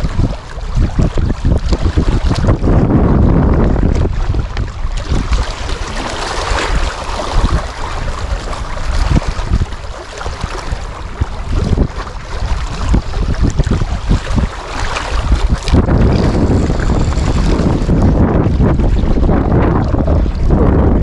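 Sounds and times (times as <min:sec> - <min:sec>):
choppy water lapping: 0:00.0 - 0:21.0
wind buffeting microphone: 0:00.0 - 0:21.0.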